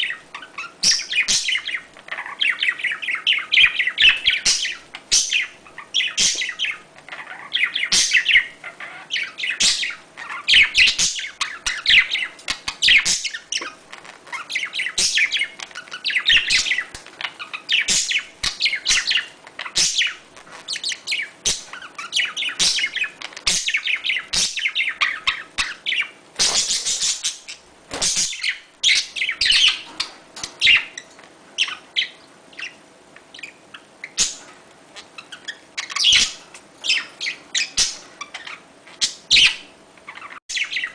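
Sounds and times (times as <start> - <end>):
budgerigars chattering: 0.0 - 32.8, 33.4 - 40.9.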